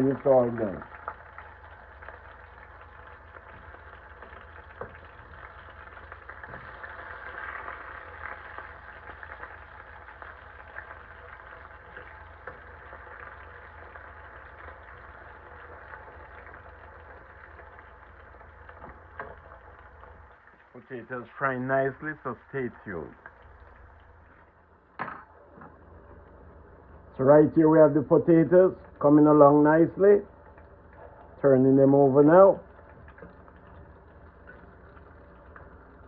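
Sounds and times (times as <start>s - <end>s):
potatoes sizzling in hot oil: 0.0s - 24.6s, 27.2s - 36.0s
low steady hum: 0.0s - 36.0s.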